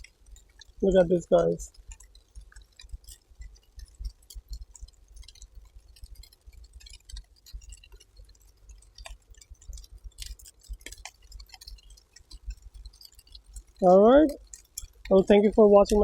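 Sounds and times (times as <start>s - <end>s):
faint crackling and ticking: 0.0s - 16.0s.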